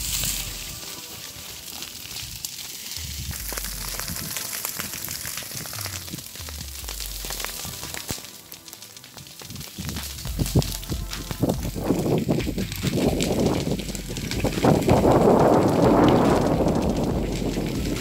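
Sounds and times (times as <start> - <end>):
grass fire crackling: 0.0 - 18.0
sharp pops from fire: 0.0 - 18.0.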